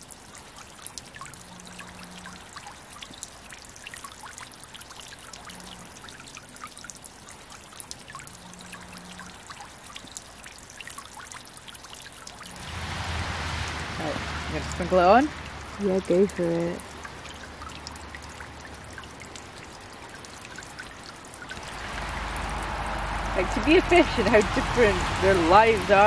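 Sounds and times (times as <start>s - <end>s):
water drips and splashes: 0.0s - 26.0s
water trickling and babbling: 0.0s - 26.0s.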